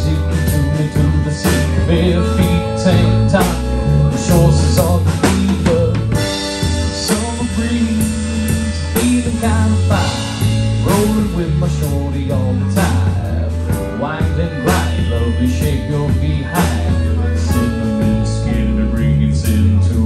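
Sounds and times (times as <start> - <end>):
drum kit hits: 0.0 - 18.7
electric bass notes: 0.0 - 20.0
electric guitars: 0.0 - 20.0.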